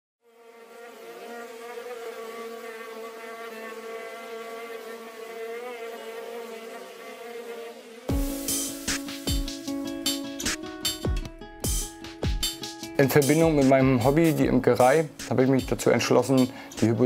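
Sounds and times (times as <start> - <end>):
bees buzzing: 0.2 - 15.3.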